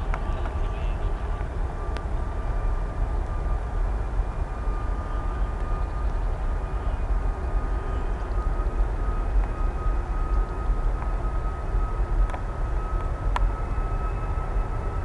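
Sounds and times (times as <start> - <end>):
high engine whine: 0.0 - 15.0
jet engines rumbling: 0.0 - 15.0.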